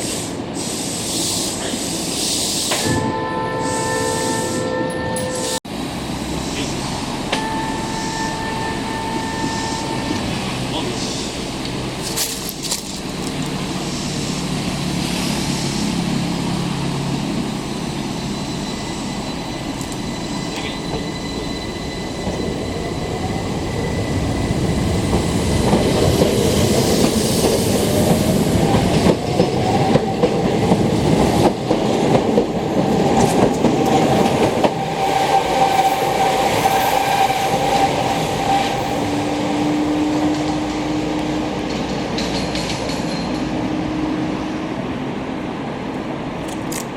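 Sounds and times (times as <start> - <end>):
electric train running on rails: 0.0 - 46.9.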